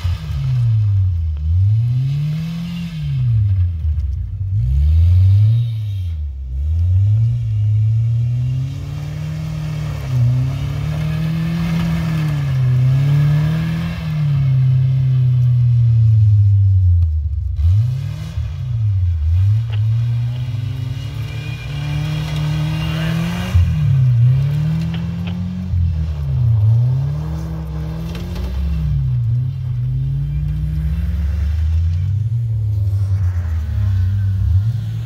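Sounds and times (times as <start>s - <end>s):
pickup engine revving: 0.0s - 35.0s.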